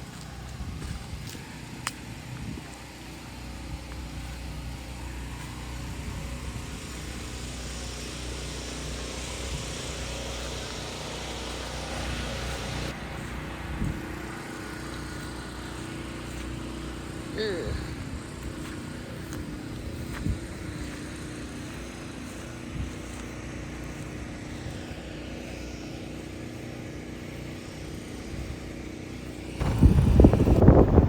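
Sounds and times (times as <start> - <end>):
golf cart motor droning: 0.0 - 31.0
road and air noise: 0.0 - 31.0.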